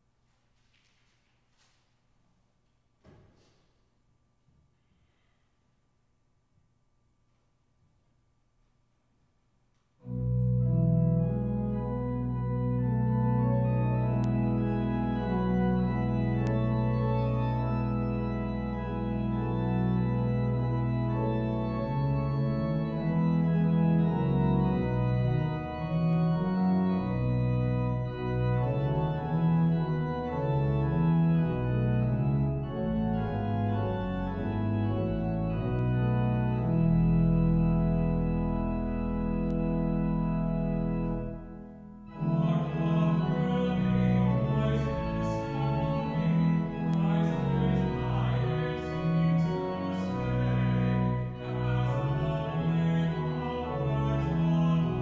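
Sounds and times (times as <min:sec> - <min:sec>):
organ low bass note: 0:10.0 - 0:55.0
organ playing sustained chords: 0:10.0 - 0:55.0.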